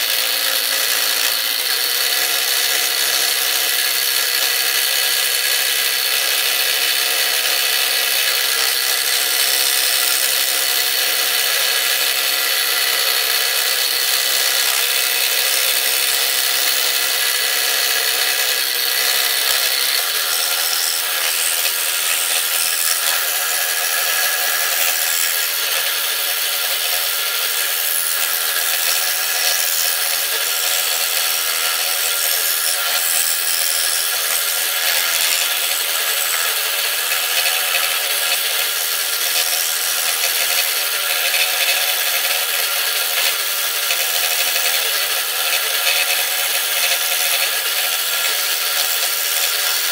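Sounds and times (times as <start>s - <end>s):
scroll saw cutting wood: 0.0s - 49.9s.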